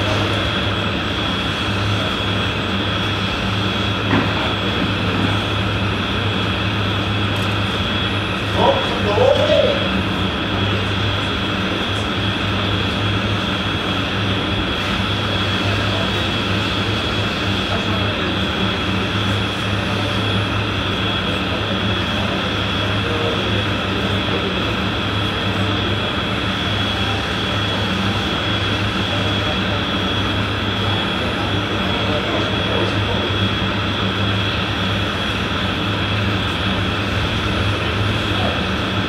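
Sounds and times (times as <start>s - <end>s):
mechanical drone with whine: 0.0s - 39.0s.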